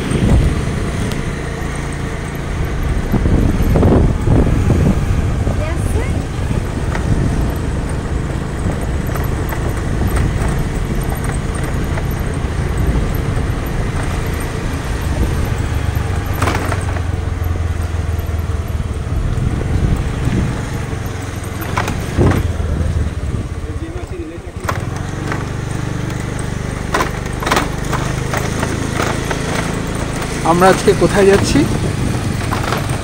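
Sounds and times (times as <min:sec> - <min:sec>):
road and wind noise: 0:00.0 - 0:33.0
scooter engine running: 0:00.0 - 0:33.0.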